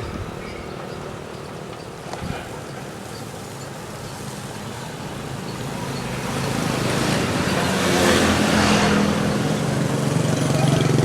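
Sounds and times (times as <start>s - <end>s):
road traffic noise: 0.0s - 11.0s
vehicle engine passing close: 2.1s - 11.0s.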